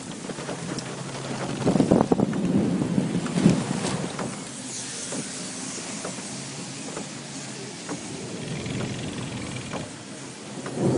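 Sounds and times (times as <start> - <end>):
rain falling: 0.0 - 10.9.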